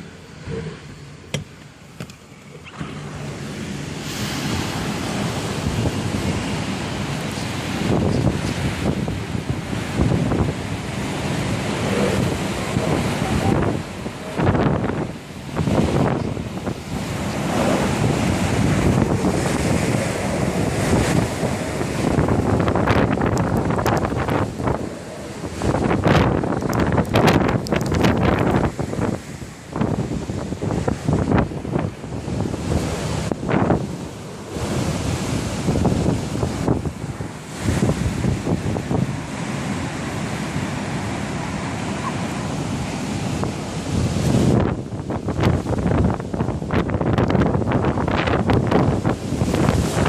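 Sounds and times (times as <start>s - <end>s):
wind buffeting microphone: 2.6s - 50.0s.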